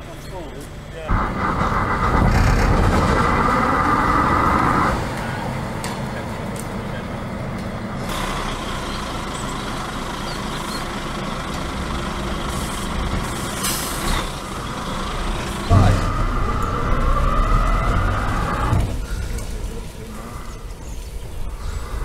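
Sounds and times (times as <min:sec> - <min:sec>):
locomotive hiss and rumble: 0:00.0 - 0:22.0.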